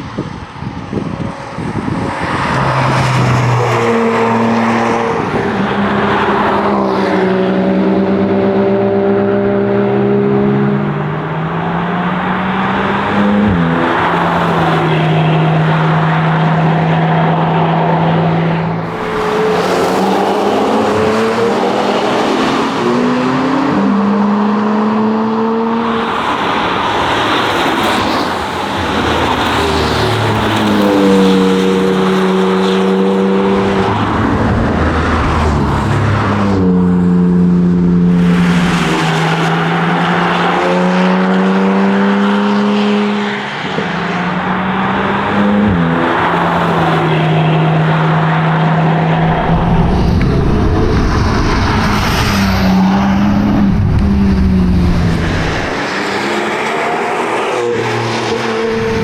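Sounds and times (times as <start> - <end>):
car engine revving: 1.2 - 59.0.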